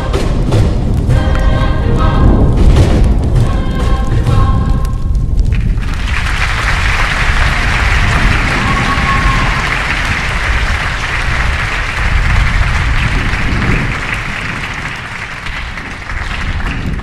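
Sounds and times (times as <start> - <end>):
heavy rain hiss: 0.0 - 17.0
low thunder rumble: 0.0 - 17.0.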